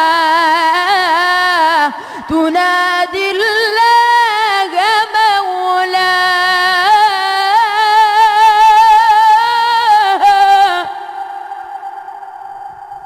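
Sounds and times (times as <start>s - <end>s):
child singing a religious chant: 0.0s - 11.5s.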